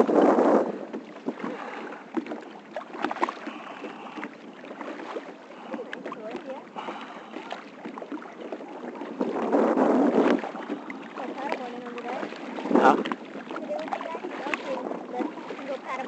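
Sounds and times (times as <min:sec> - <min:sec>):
water lapping and splashing: 0:00.0 - 0:16.0
paddle knocks: 0:00.8 - 0:16.0
water dripping from paddle: 0:00.9 - 0:09.4, 0:10.1 - 0:16.0.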